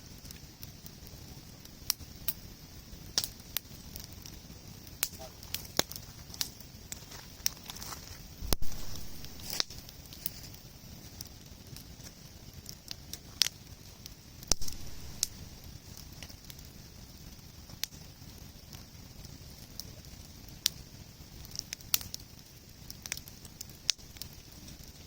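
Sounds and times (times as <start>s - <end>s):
campfire crackling and popping: 0.0s - 25.0s
fire hiss: 0.0s - 25.0s.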